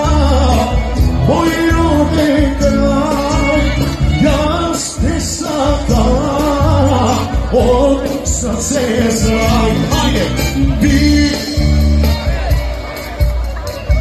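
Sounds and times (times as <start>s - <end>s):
person singing: 0.0s - 12.8s
live band over loudspeaker: 0.0s - 14.0s.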